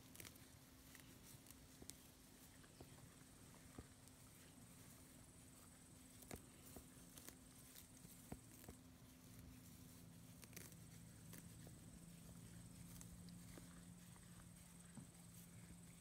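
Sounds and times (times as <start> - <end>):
calf tearing and chewing grass: 0.0 - 16.0.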